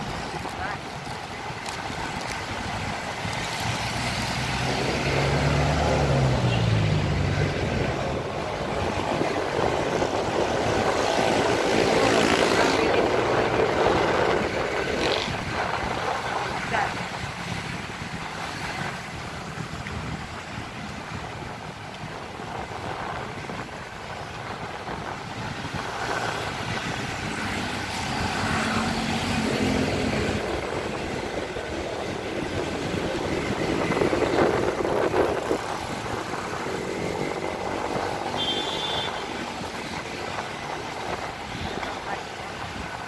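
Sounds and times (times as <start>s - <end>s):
vehicles passing on road: 0.0s - 43.0s.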